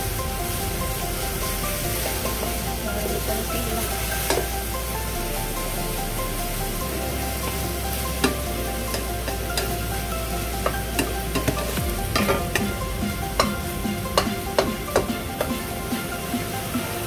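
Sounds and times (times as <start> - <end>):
noodles sizzling in a wok: 0.0 - 17.0.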